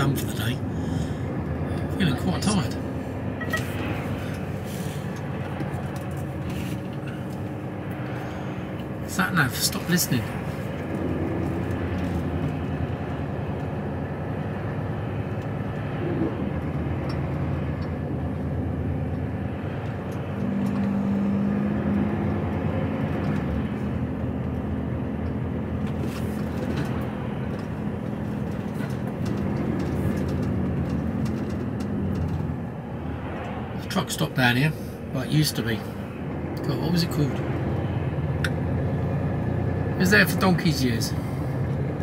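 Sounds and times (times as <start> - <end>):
diesel truck engine running: 0.0 - 42.0
road noise: 0.0 - 42.0.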